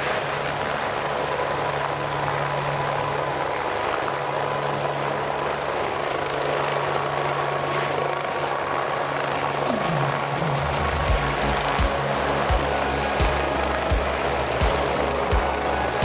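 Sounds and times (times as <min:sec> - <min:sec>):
helicopter hovering: 0:00.0 - 0:16.0.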